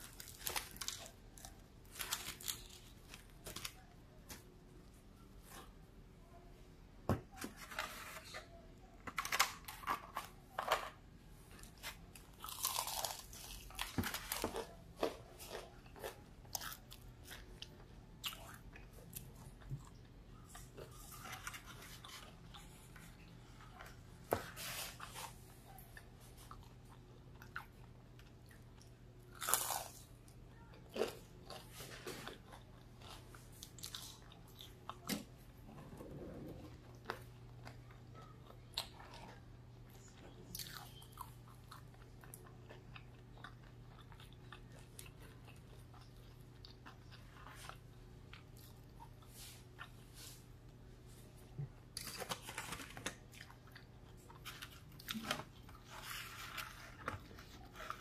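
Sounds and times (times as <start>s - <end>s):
crunching and chewing fried fish: 0.0s - 4.4s, 11.5s - 24.0s, 25.0s - 35.4s, 36.7s - 50.3s, 51.8s - 58.0s.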